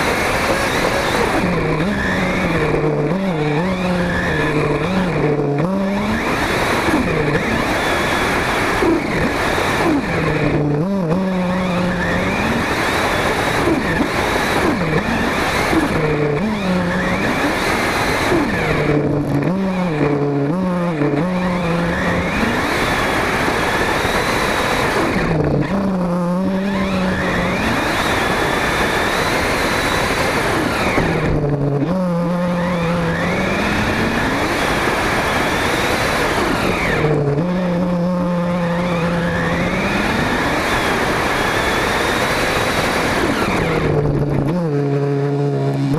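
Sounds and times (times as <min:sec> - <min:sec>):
radio-controlled buggy motor revving: 0:00.0 - 0:45.9.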